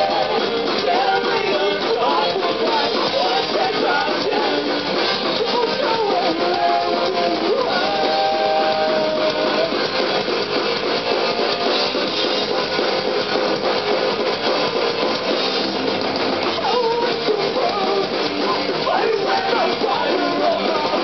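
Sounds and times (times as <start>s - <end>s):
drums: 0.0s - 21.0s
loud electric guitars: 0.0s - 21.0s
punk rock band playing live: 0.0s - 21.0s.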